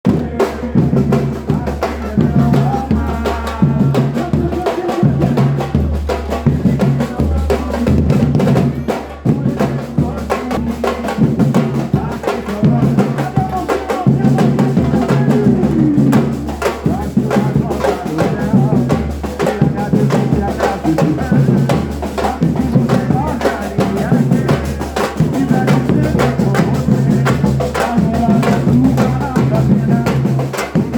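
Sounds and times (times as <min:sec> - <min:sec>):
bass drums pounding: 0:00.1 - 0:30.9
high drums striking fast: 0:00.1 - 0:30.9
voices: 0:00.1 - 0:30.9.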